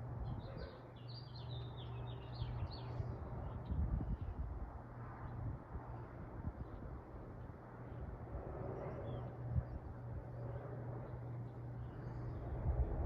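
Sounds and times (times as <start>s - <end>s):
ceiling fan motor hum: 1.6s - 13.0s.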